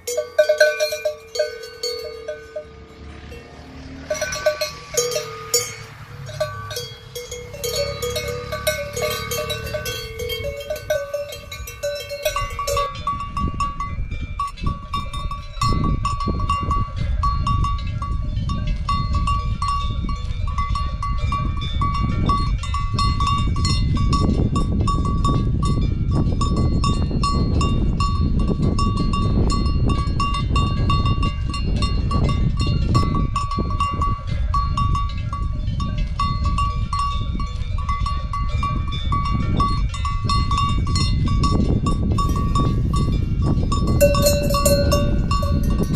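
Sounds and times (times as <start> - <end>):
cowbells clanking: 0.0 - 45.9
high bell clanging: 0.0 - 45.9.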